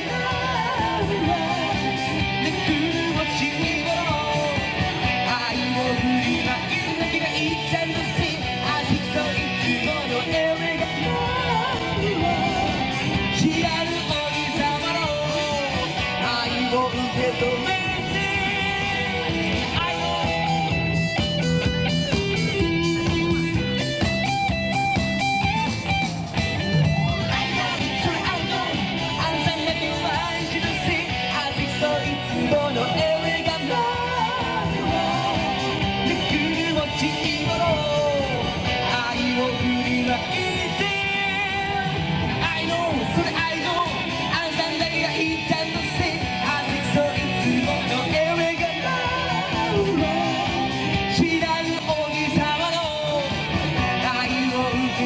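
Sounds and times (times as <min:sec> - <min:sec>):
upbeat rock pop song: 0:00.0 - 0:55.0.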